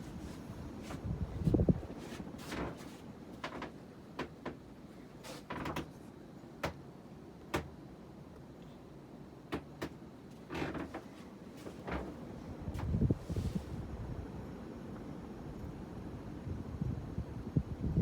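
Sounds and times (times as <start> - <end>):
ceiling fan whirring: 0.0 - 18.0.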